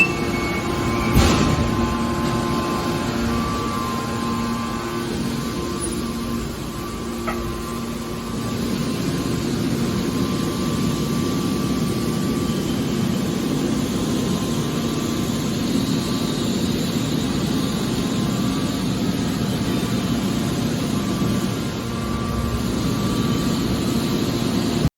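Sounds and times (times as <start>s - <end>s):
hydraulic baler motor drone: 0.0s - 24.9s.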